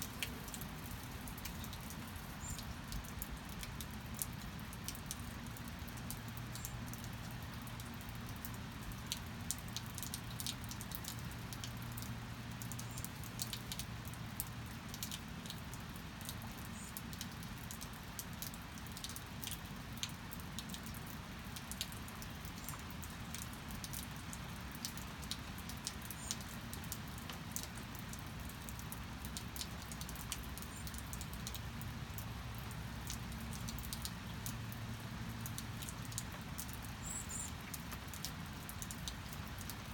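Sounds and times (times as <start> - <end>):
sharp drips and taps: 0.0 - 39.9
steady rain falling: 0.0 - 39.9.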